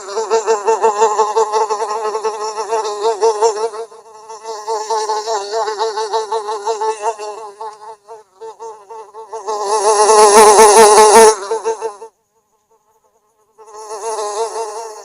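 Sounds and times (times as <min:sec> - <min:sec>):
fly buzzing: 0:00.0 - 0:15.0.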